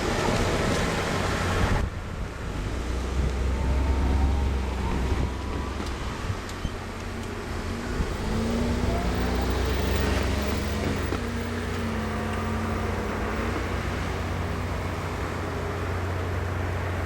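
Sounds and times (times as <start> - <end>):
train machinery rumbling: 0.0 - 17.0
wind on microphone: 0.0 - 17.0.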